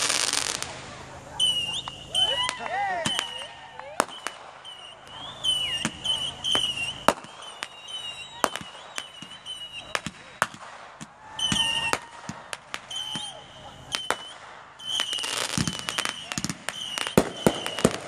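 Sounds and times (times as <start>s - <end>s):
fireworks bangs and crackles: 0.0s - 18.0s
whistling fireworks: 0.0s - 18.0s.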